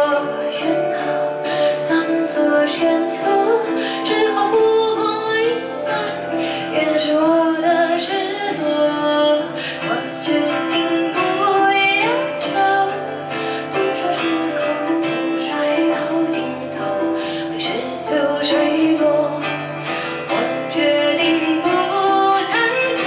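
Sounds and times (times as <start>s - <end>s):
guitar accompaniment: 0.0s - 23.0s
woman singing: 0.0s - 23.0s.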